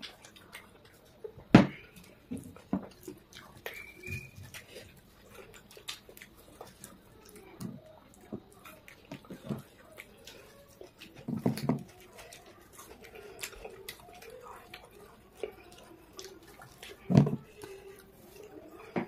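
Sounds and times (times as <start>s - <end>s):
wet chewing and mouth clicks: 0.0s - 19.0s.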